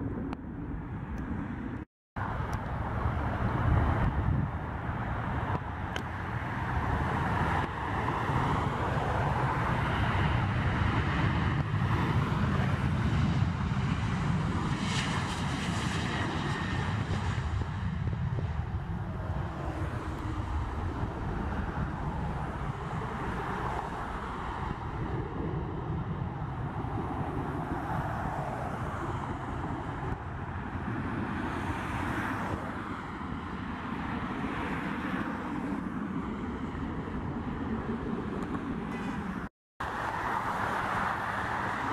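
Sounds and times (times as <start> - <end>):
jet engines rumbling at takeoff: 0.0 - 41.9.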